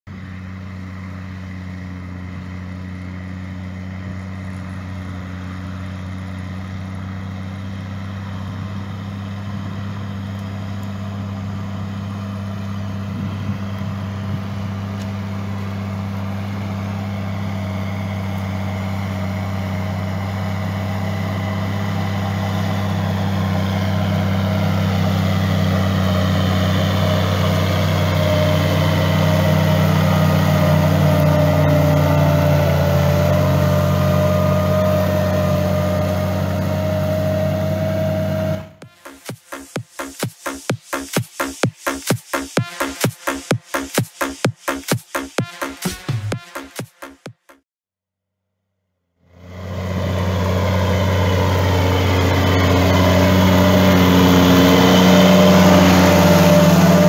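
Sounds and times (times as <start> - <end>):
tractor diesel engine drone: 0.1 - 44.5, 49.3 - 57.0.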